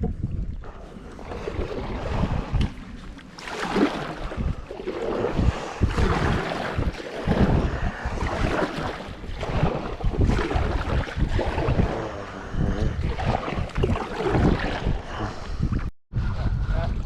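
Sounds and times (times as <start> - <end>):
water splashing around kayak: 0.0 - 17.0
wind buffeting microphone: 0.0 - 17.0.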